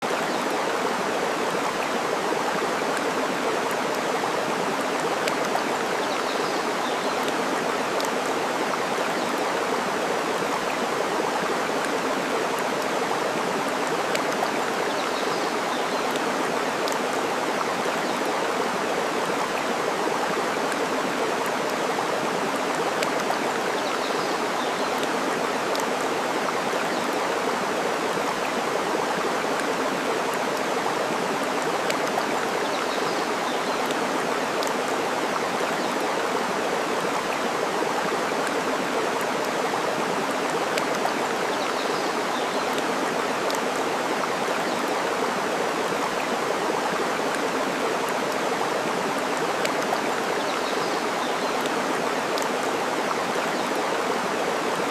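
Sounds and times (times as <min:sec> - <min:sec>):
flowing water: 0:00.0 - 0:54.9.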